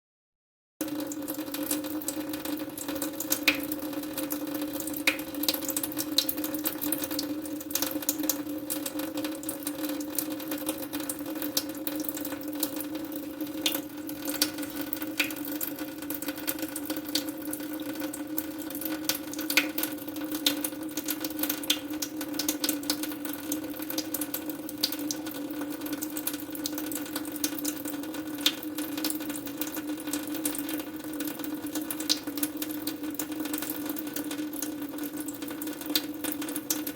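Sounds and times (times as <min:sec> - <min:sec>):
tap water running into sink: 0:00.8 - 0:36.9.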